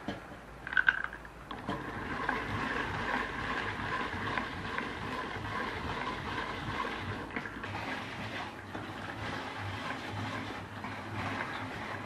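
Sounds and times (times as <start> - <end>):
nut grater grinding: 1.7 - 12.0.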